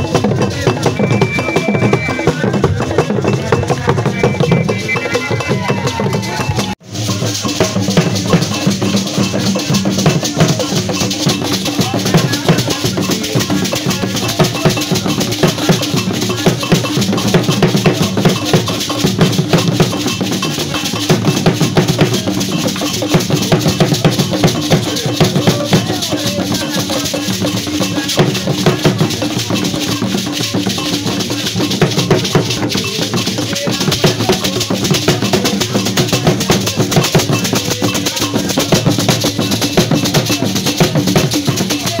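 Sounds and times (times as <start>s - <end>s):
drum ensemble playing fast rhythm: 0.0s - 42.0s.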